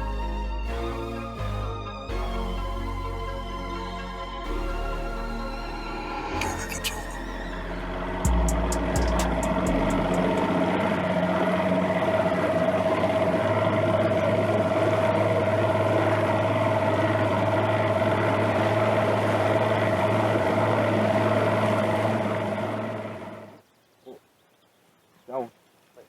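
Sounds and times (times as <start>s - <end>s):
boat motor humming: 0.0s - 23.6s.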